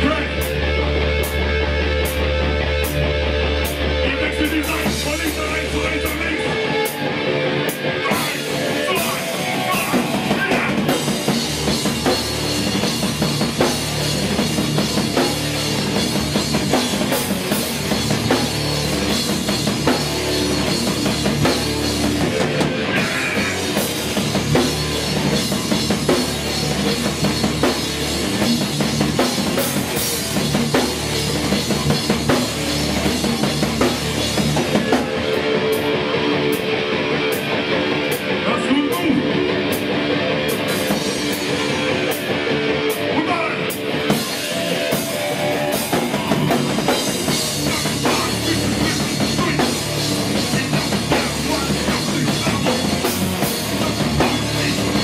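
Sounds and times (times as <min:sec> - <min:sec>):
distorted electric guitar: 0:00.0 - 0:55.0
driving drum kit: 0:00.0 - 0:55.0
punk band playing live: 0:00.0 - 0:55.0.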